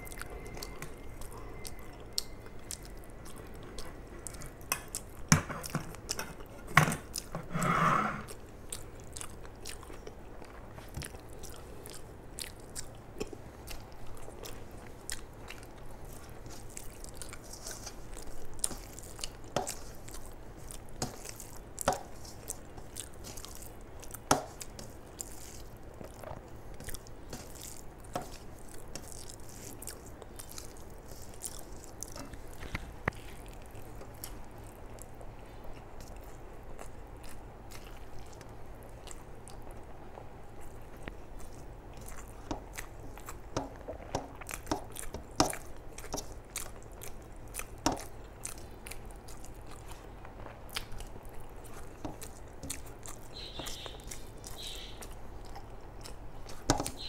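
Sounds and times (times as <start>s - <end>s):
person chewing food: 0.0s - 7.6s, 8.2s - 57.0s
fingers squishing rice on plate: 8.2s - 39.7s, 40.6s - 57.0s.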